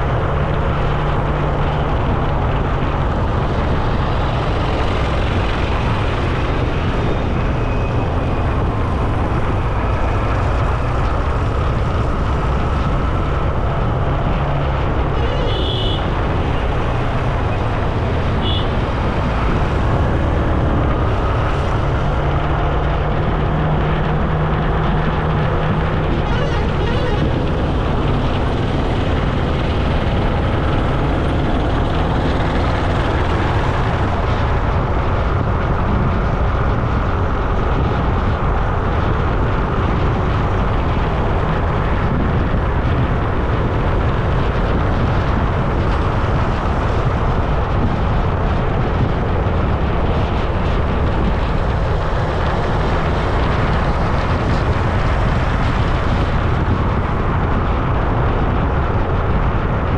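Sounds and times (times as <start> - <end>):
road noise: 0.0 - 59.9
wind rushing: 0.0 - 59.9.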